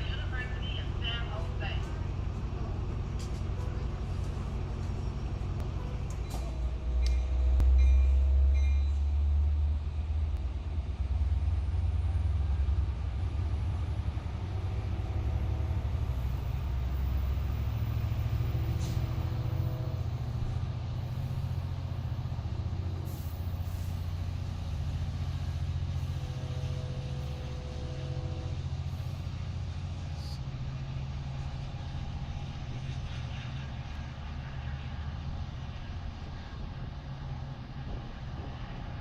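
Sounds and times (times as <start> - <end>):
heavy diesel engine rumbling: 0.0 - 39.0.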